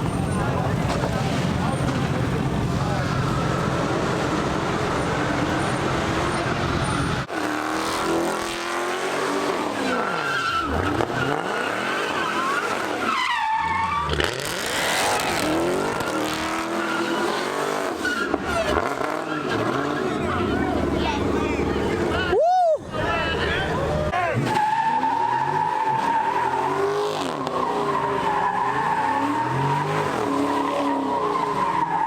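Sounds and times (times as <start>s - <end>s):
car engine revving hard: 1.1s - 13.1s, 14.0s - 22.1s, 25.3s - 32.0s.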